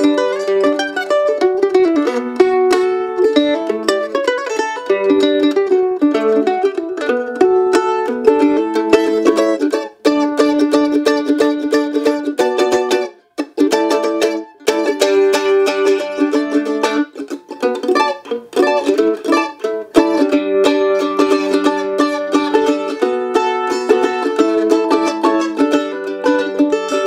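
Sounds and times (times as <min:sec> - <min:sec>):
mandolin strummed fast: 0:00.0 - 0:27.0.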